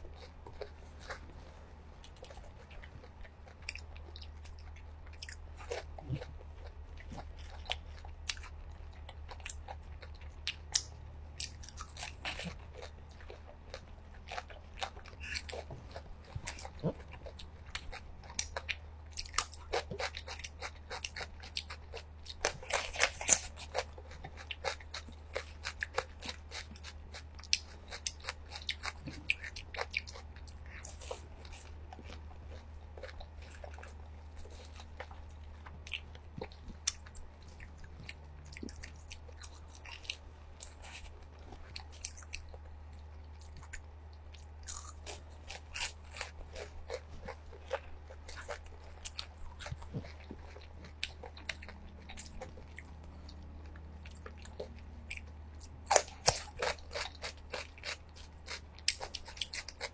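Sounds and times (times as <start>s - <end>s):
crunching and chewing food: 0.0s - 59.9s
steady low hum: 0.0s - 59.9s.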